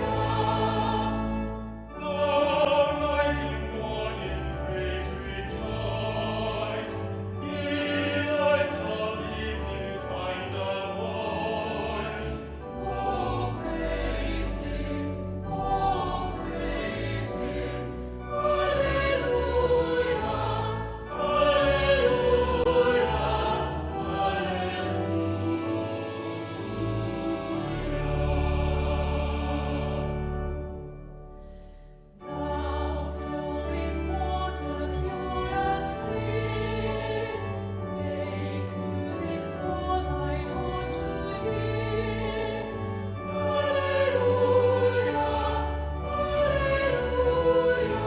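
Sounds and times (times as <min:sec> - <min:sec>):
choir singing sacred piece: 0:00.0 - 0:48.0
sustained instrumental accompaniment: 0:00.0 - 0:48.0.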